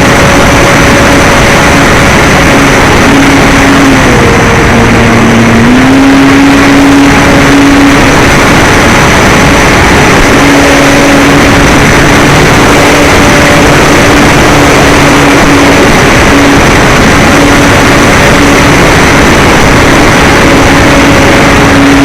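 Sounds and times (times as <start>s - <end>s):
low motor hum: 0.0s - 22.0s
model airplane propeller and wind rush: 0.0s - 22.0s.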